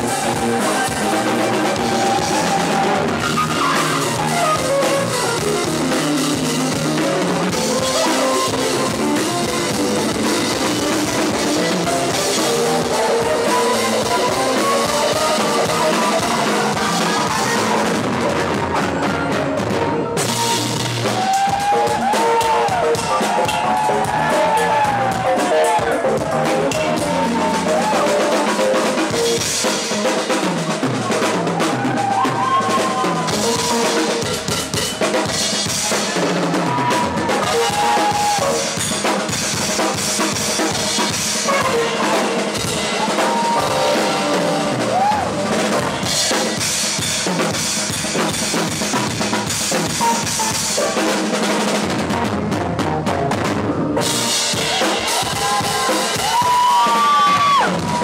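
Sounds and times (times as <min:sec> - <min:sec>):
acoustic drum kit played hard: 0:00.0 - 0:58.0.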